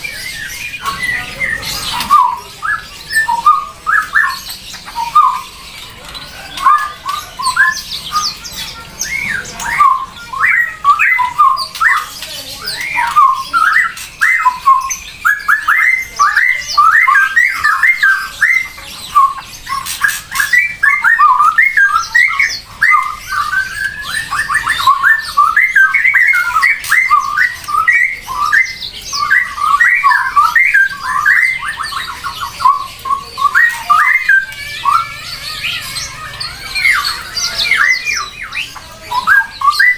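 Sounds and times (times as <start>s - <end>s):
bird chirping and squawking: 0.0s - 39.9s.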